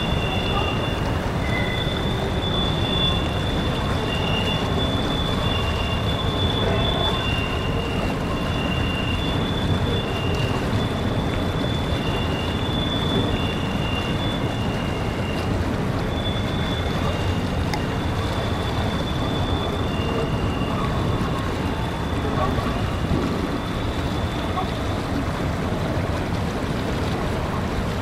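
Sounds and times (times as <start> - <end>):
wheel squeal: 0.0 - 25.2
freight train rumble: 0.0 - 28.0.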